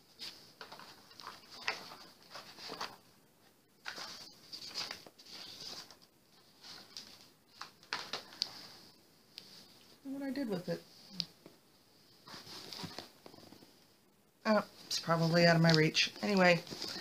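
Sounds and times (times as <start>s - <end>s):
faint rustling: 0.0s - 17.0s.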